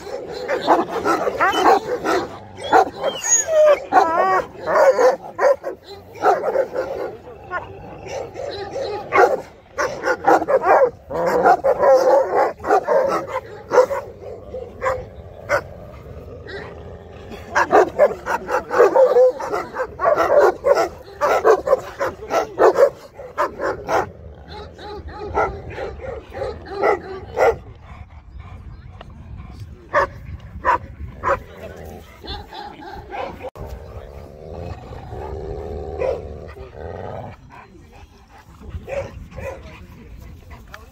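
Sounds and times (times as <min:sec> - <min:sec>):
large dogs barking: 0:00.0 - 0:28.8, 0:29.8 - 0:40.9.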